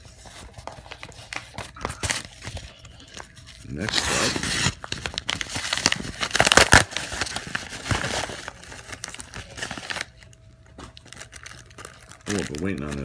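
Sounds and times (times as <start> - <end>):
paper mailer crinkling: 0.0 - 13.0.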